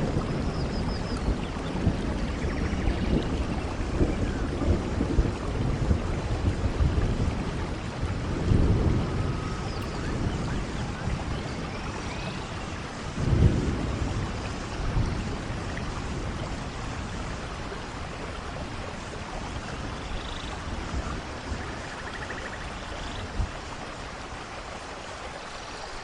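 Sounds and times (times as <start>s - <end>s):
thunder rumbling: 0.0s - 24.6s
steady rainfall: 0.0s - 26.0s.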